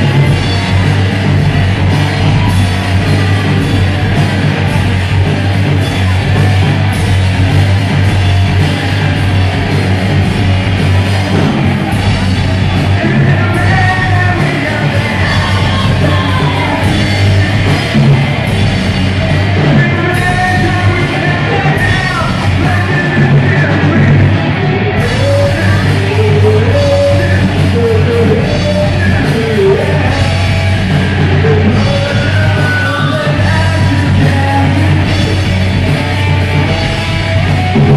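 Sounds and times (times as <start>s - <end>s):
live rock band playing: 0.0s - 37.9s
person singing and yelling: 0.0s - 37.9s.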